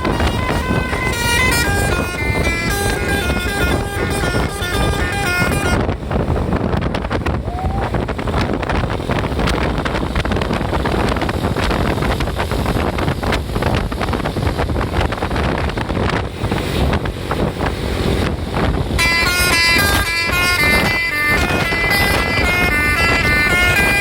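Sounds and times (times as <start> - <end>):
traffic rumble: 0.0 - 24.0
vehicle engine: 0.0 - 24.0
wind buffeting microphone: 0.0 - 24.0.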